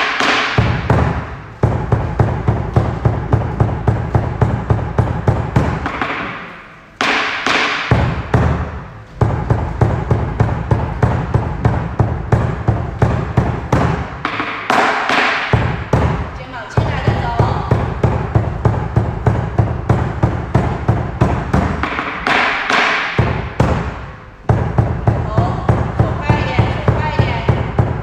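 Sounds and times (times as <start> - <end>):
crashing percussion hits: 0.0 - 28.0
percussion beat thudding: 0.0 - 28.0.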